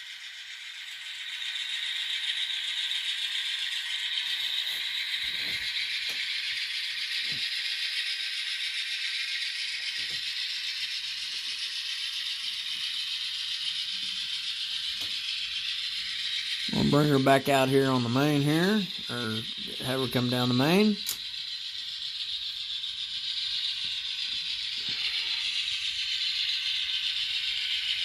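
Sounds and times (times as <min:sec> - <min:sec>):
tinny model diesel engine sound: 0:00.0 - 0:28.0.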